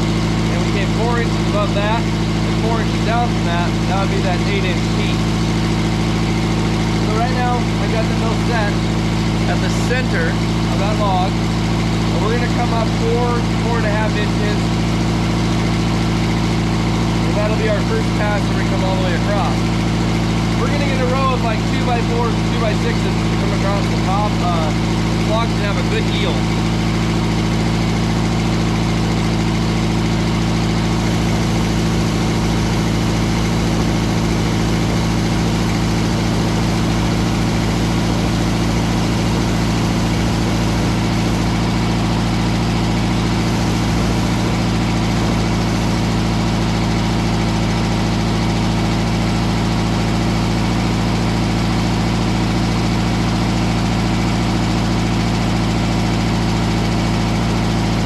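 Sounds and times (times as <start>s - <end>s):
sawmill engine humming: 0.0s - 58.0s.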